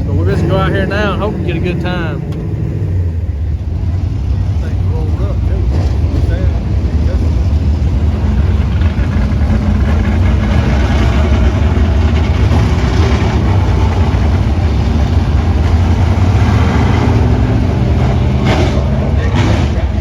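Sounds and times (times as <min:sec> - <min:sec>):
race car engine running: 0:00.0 - 0:20.0.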